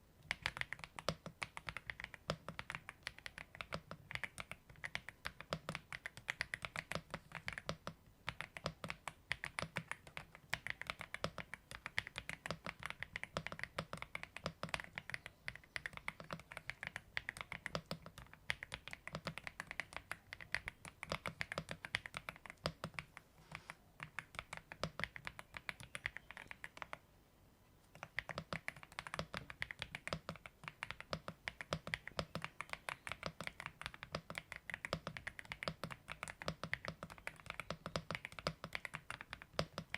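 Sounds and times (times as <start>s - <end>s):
fast typing on mechanical keyboard: 0.3s - 23.2s, 24.0s - 27.0s, 27.9s - 39.9s.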